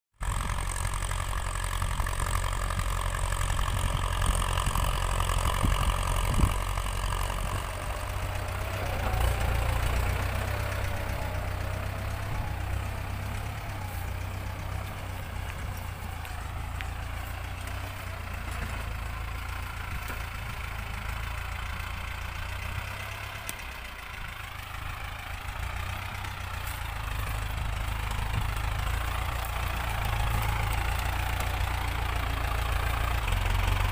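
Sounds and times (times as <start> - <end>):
tractor diesel engine under load: 0.1 - 33.9.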